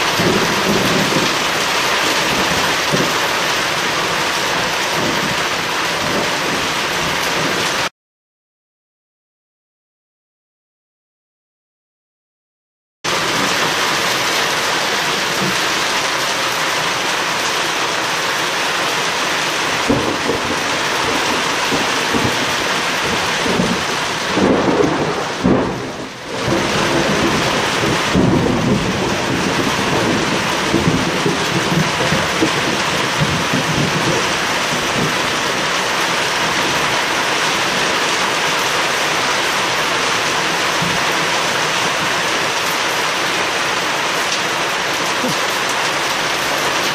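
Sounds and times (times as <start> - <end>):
heavy rain pouring: 0.0 - 7.9, 13.1 - 46.9
thunder rumbling and crackling: 0.0 - 7.9, 13.1 - 46.9.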